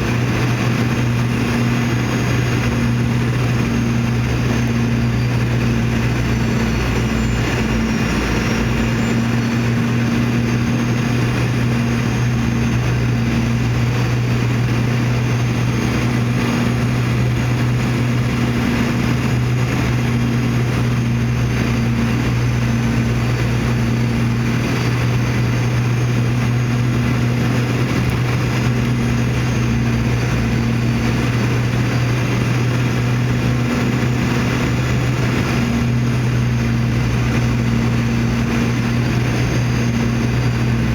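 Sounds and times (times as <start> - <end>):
constant low hum: 0.0 - 40.9
jet engines droning: 0.0 - 40.9
rushing airflow: 0.0 - 40.9.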